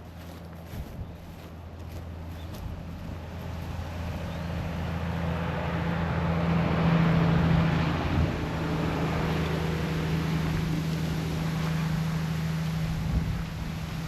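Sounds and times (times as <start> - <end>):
low engine hum: 0.0 - 14.0
vehicle passing: 0.0 - 14.0.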